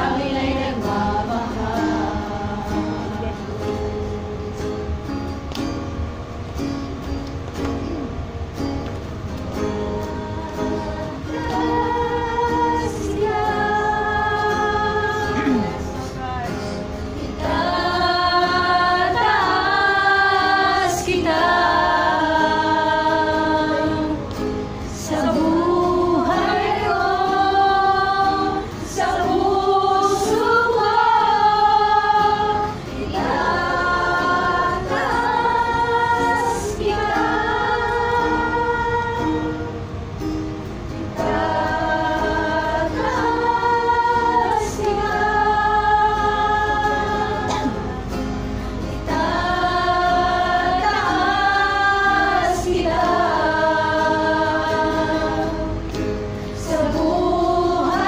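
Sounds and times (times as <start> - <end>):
women singing worship song: 0.0 - 5.0, 9.6 - 40.2, 41.0 - 58.0.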